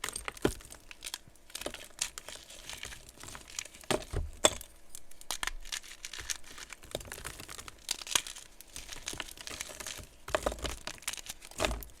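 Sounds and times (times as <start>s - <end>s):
chalk crackling and crumbling: 0.0s - 12.0s.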